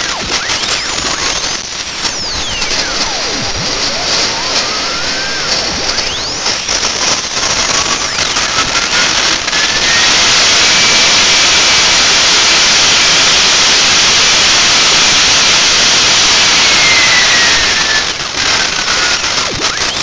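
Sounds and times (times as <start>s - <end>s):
jet turbine whining: 0.0s - 18.2s.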